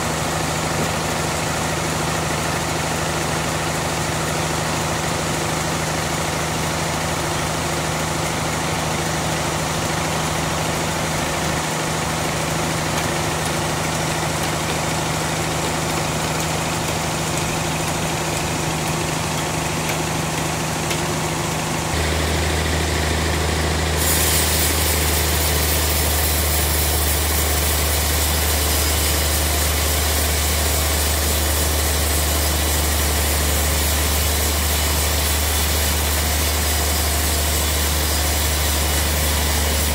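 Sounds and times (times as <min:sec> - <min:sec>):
band saw engine running: 0:05.9 - 0:39.9.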